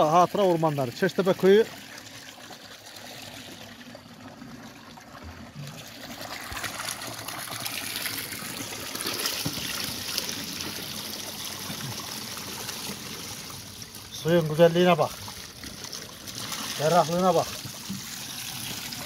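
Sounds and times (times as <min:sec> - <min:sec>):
water filling plastic bottle: 0:00.0 - 0:19.0.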